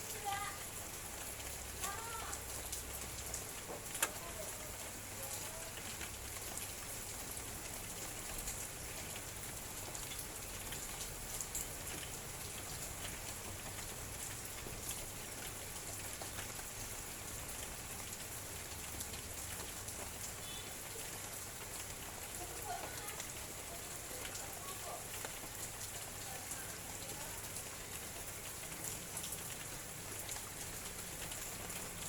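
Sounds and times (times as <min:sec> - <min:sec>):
light drizzle falling: 0:00.0 - 0:32.0.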